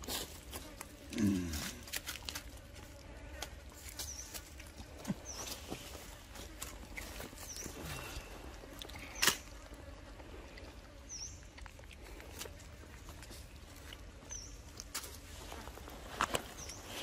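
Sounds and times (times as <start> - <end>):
clicks and rustles in leaves: 0.0 - 17.0.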